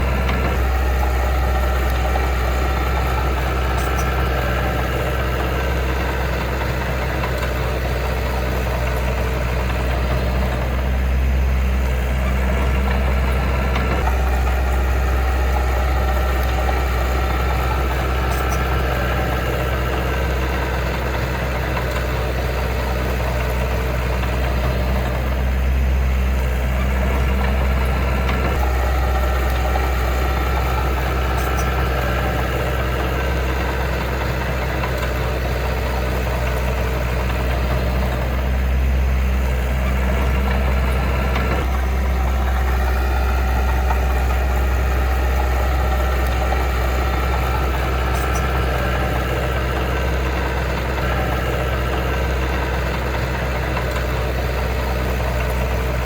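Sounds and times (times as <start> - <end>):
diesel engine running low: 0.0 - 56.0.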